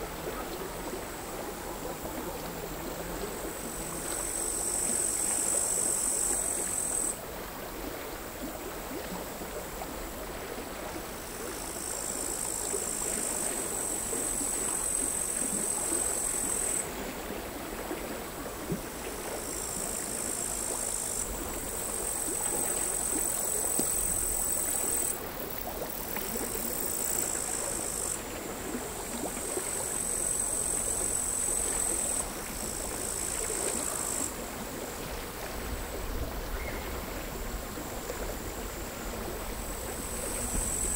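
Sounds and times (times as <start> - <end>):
crickets chirping: 0.0 - 7.2, 11.0 - 17.1, 18.7 - 40.9.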